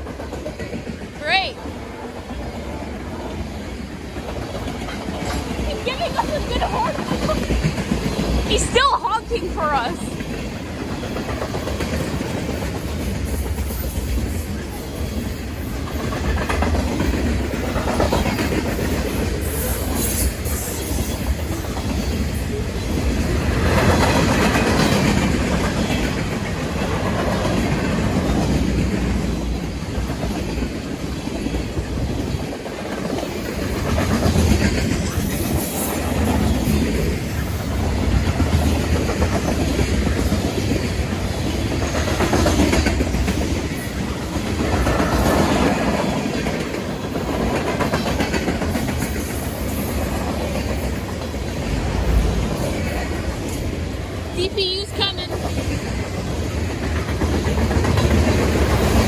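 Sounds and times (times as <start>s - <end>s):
freight train cars rolling past: 0.0s - 59.0s.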